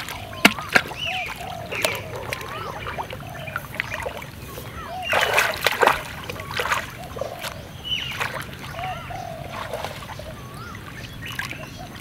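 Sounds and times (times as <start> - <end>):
wavering animal calls: 0.0 - 10.9
muddy water splashing: 0.0 - 12.0.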